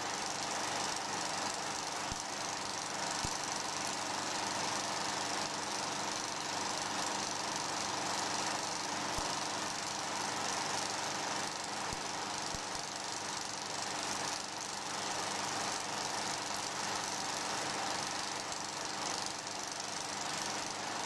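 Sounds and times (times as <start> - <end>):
mechanical running noise: 0.1 - 21.0.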